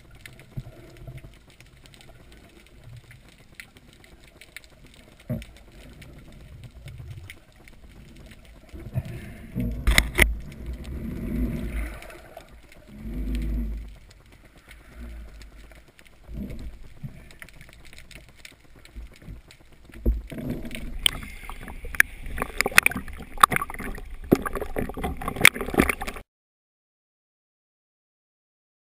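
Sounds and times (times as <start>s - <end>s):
water sloshing and gurgling: 0.0s - 26.2s.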